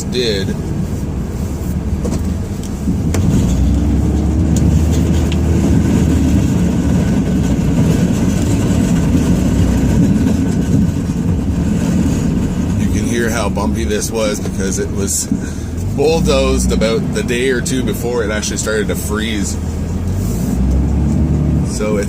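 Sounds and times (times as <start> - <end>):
diesel engine under load: 0.0 - 22.0
rumble over bumpy ground: 0.0 - 22.0.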